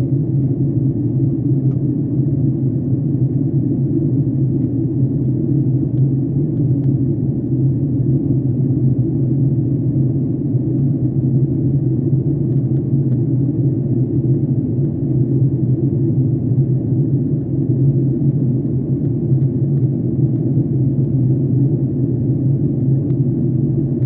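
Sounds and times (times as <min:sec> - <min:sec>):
jet airliner cabin drone: 0:00.0 - 0:24.0.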